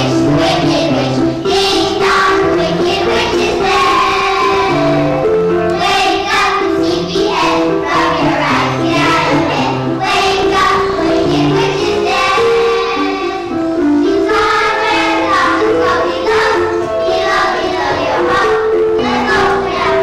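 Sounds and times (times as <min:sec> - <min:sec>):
children singing together: 0:00.0 - 0:20.0
musical accompaniment: 0:00.0 - 0:20.0.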